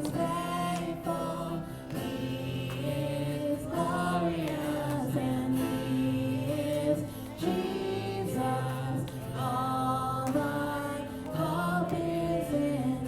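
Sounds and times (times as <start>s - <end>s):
voices singing slow song: 0.0s - 13.0s.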